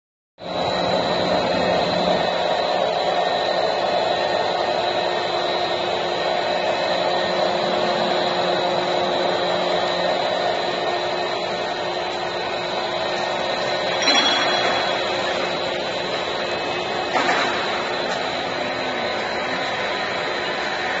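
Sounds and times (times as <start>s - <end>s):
electric motors and fans whirring: 0.4s - 21.0s
high-pitched machine whine: 0.4s - 21.0s.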